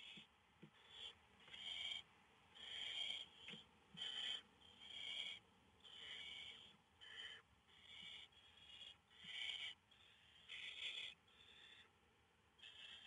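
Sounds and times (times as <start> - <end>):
owl chicks hissing begging calls: 0.0 - 11.9, 12.6 - 13.0.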